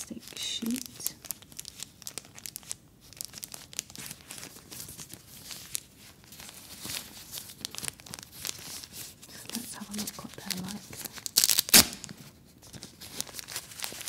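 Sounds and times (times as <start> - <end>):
plastic wrapper crinkling and tearing: 0.0 - 14.0.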